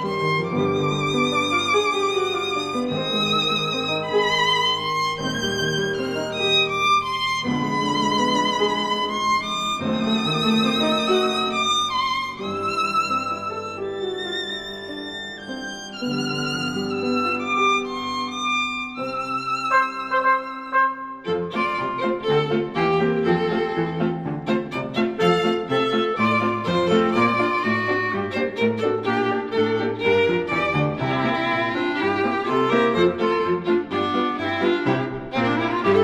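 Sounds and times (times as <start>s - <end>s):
violin melody with vibrato: 0.0s - 36.0s.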